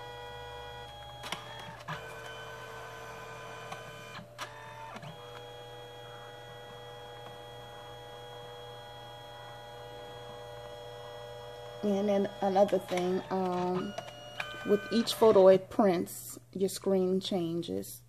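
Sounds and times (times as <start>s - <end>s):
photo printer motor whine: 0.0s - 15.6s
printer click: 0.4s - 15.3s.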